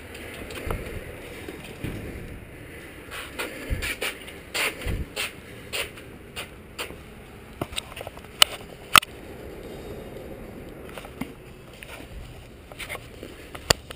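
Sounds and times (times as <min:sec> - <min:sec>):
bike scraping and shuffling: 0:00.0 - 0:13.9.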